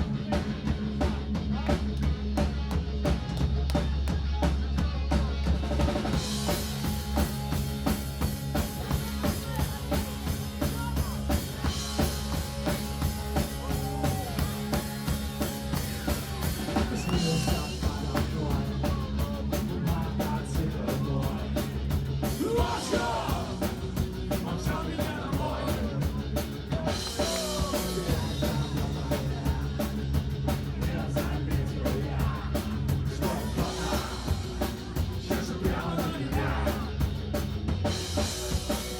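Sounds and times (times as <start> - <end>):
punk rock band playing: 0.0 - 38.9.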